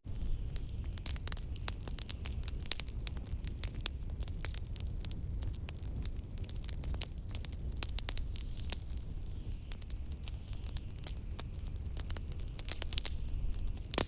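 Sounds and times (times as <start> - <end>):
fireplace crackling and popping: 0.0 - 14.0.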